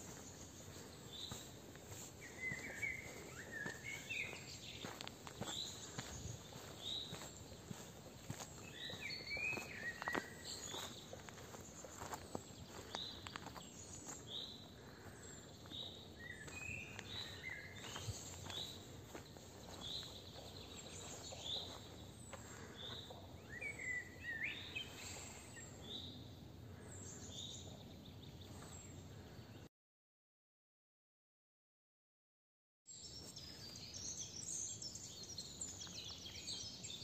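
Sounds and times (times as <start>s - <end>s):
songbirds singing and calling: 0.0s - 29.7s, 32.9s - 37.0s.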